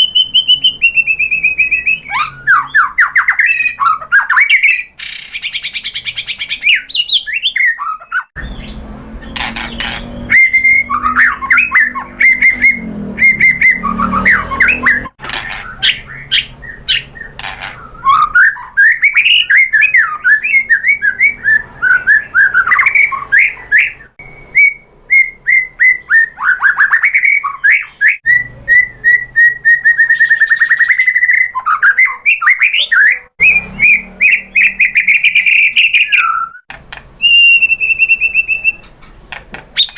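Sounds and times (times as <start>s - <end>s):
bird singing whistled song: 0.0s - 39.0s.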